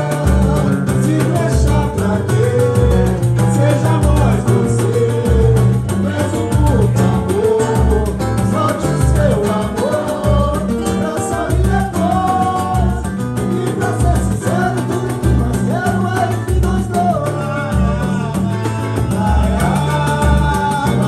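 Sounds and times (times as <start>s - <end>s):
small guitar and acoustic guitar: 0.0s - 21.0s.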